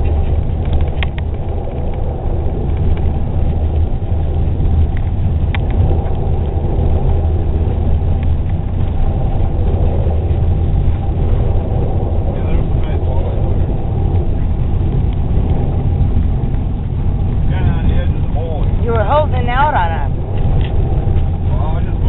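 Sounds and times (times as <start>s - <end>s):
tracked vehicle engine rumble: 0.0s - 22.0s.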